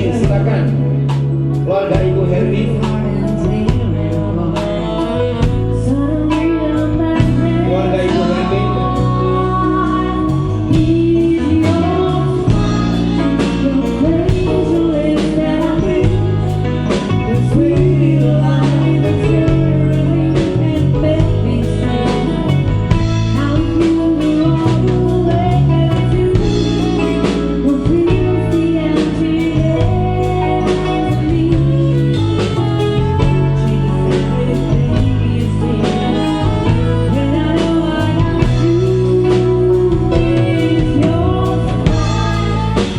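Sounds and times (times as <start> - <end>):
bass guitar: 0.0 - 42.9
electric guitar: 0.0 - 42.9
lead vocal singing: 0.0 - 42.9
steady drum beat: 0.0 - 42.9.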